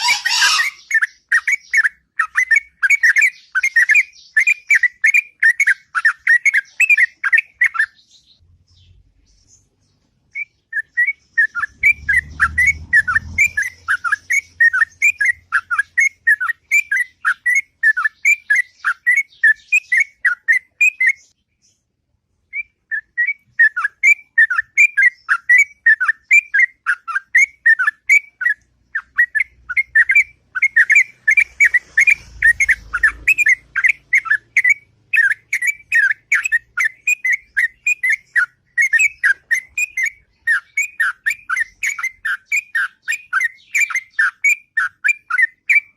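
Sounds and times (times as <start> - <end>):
bulbul singing whistled notes: 0.0 - 8.4, 10.3 - 21.8, 22.5 - 45.9.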